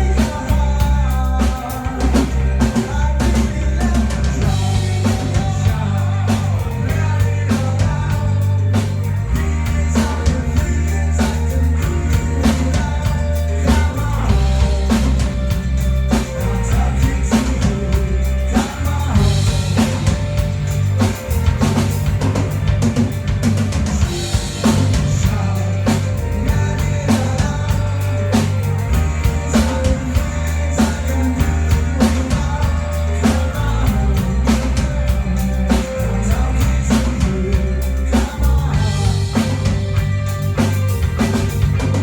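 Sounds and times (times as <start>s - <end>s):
band playing live: 0.0s - 42.0s
bass line: 0.0s - 42.0s
drum kit beat: 0.0s - 42.0s.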